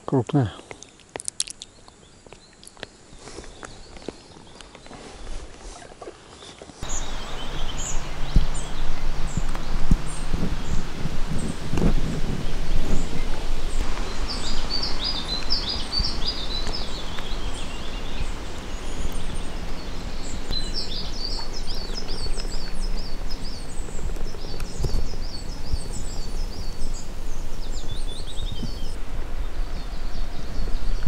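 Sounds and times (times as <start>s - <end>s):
songbird chirping: 0.0s - 31.0s.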